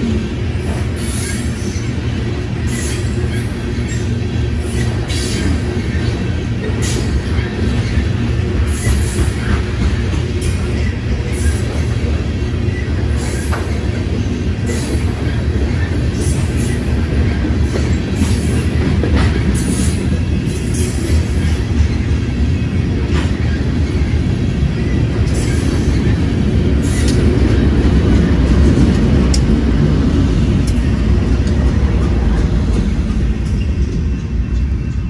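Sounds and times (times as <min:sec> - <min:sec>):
diesel locomotives passing: 0:00.0 - 0:35.0
train wheels rumbling on rail: 0:00.0 - 0:35.0.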